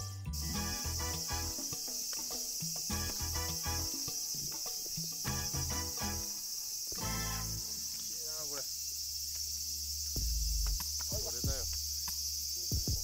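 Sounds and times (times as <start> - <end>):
cicadas shrilling: 0.0 - 13.0.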